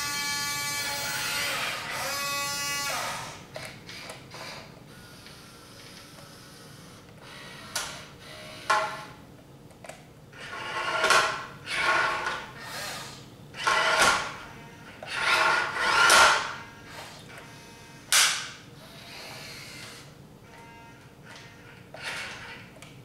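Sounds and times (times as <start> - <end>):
electric motors whirring: 0.0 - 9.2, 10.4 - 18.2, 18.8 - 22.9.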